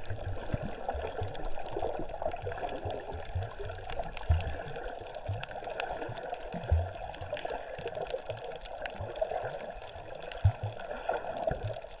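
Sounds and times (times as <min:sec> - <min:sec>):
muffled underwater sloshing: 0:00.0 - 0:12.0.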